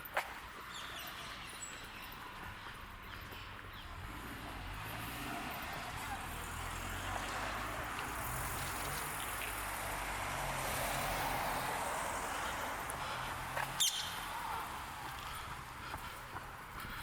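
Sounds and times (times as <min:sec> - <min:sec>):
vehicle passing on street: 0:02.3 - 0:17.0.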